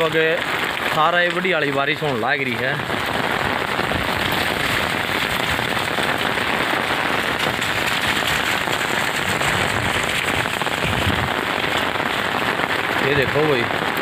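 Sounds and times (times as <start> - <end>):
heavy rain on pavement: 0.0 - 14.0.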